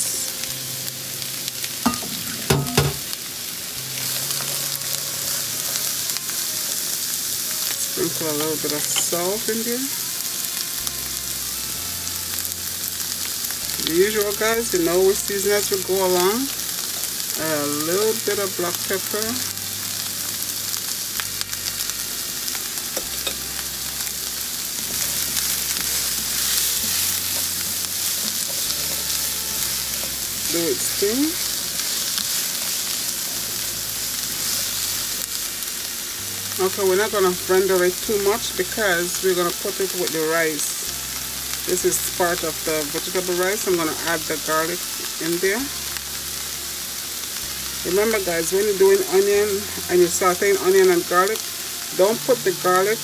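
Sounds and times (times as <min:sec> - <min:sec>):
onions sizzling in a pan: 0:00.0 - 0:53.0.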